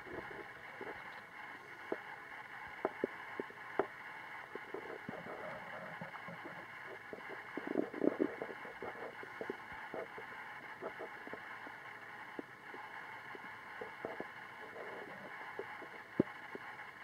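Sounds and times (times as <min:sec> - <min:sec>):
faint steady hiss: 0:00.0 - 0:17.0
stomach gurgling: 0:00.0 - 0:17.0.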